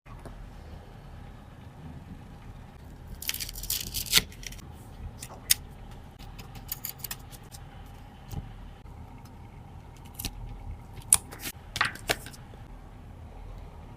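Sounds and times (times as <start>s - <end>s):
low steady hum: 0.1s - 13.9s.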